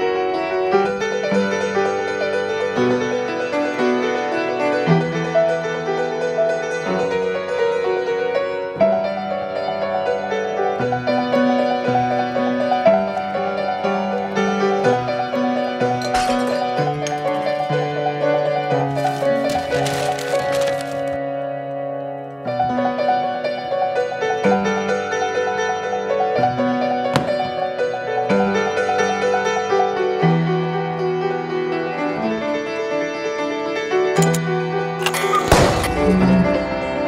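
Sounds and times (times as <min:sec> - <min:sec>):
solo classical piano: 0:00.0 - 0:37.0.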